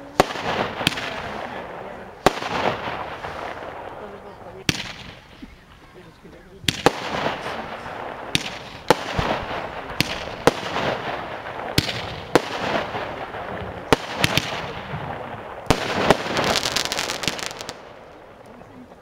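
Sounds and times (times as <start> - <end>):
firework bangs: 0.0 - 18.7
firework crackling: 0.0 - 19.0.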